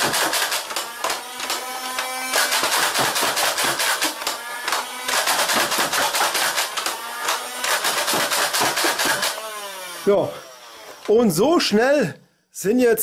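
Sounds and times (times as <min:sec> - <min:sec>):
electric flywheels running: 0:00.0 - 0:11.4.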